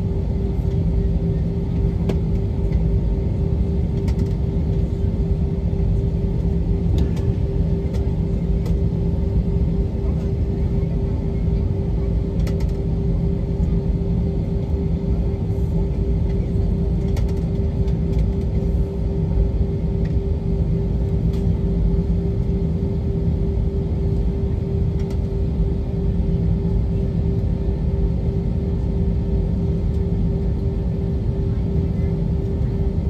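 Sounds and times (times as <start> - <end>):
airliner cabin engine rumble: 0.0 - 33.0.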